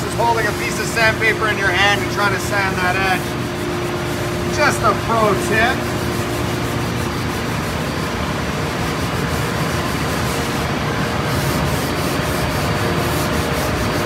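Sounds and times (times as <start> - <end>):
sandpaper scrubbing wood: 0.0 - 14.0.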